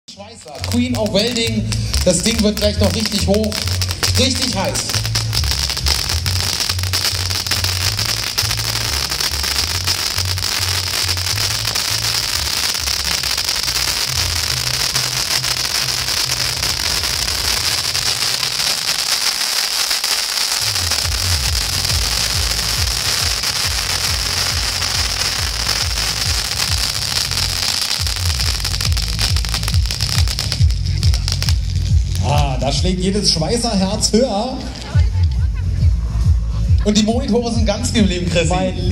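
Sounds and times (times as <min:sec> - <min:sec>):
firework fountain hissing and crackling: 0:00.1 - 0:35.5
music with deep bass: 0:00.2 - 0:19.5, 0:20.3 - 0:38.9.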